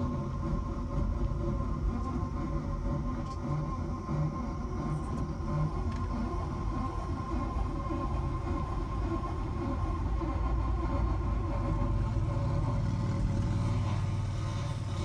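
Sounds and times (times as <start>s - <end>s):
high-pitched wheel grinding: 2.6s - 15.0s.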